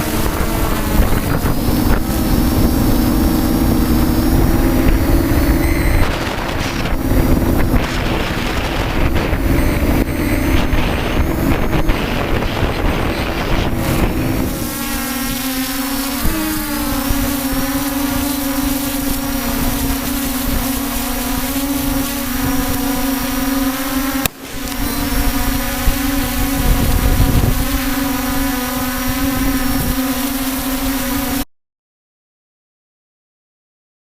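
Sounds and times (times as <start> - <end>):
wind buffeting microphone: 0.0 - 30.0
steady motor hum: 0.0 - 31.4.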